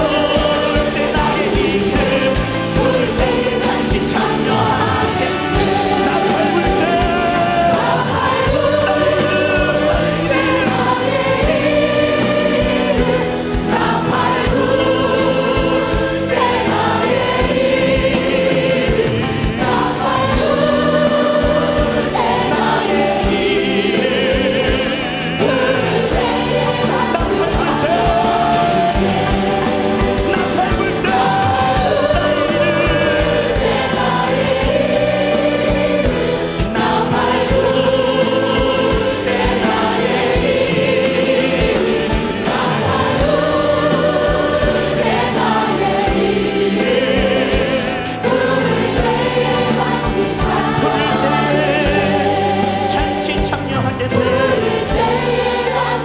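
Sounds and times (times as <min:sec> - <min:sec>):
choir singing a hymn: 0:00.0 - 0:56.0
instrumental backing: 0:00.0 - 0:56.0.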